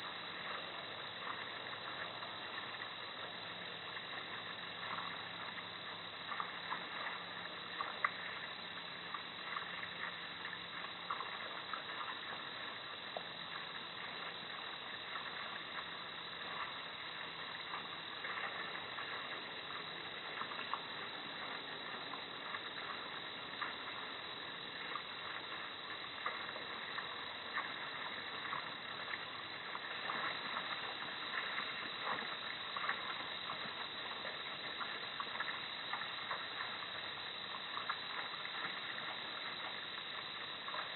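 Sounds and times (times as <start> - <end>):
faint ticks: 0.0 - 40.9.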